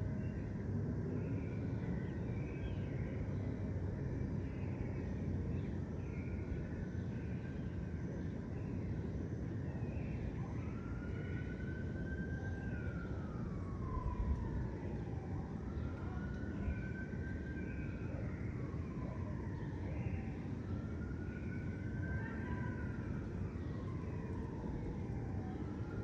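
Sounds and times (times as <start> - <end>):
city traffic rumble: 0.0 - 26.0
distant siren wailing: 0.0 - 26.0.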